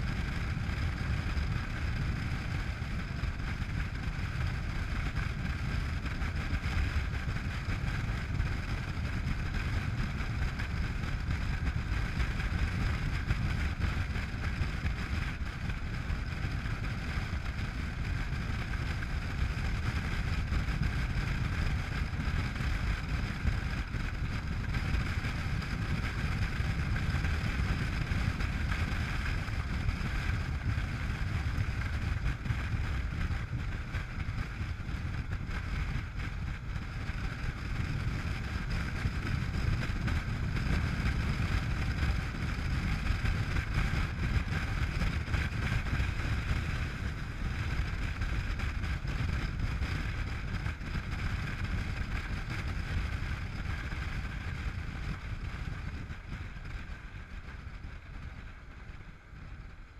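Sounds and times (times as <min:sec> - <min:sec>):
wind rushing over microphone: 0:00.0 - 0:59.6.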